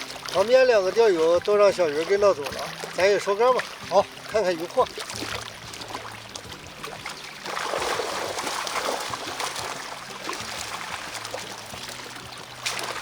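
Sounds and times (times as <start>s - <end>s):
water splashing and pouring: 0.0s - 13.0s.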